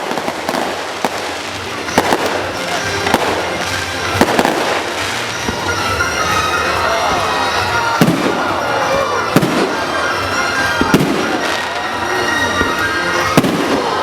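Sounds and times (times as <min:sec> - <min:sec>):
din of small firework bursts: 0:00.0 - 0:14.0.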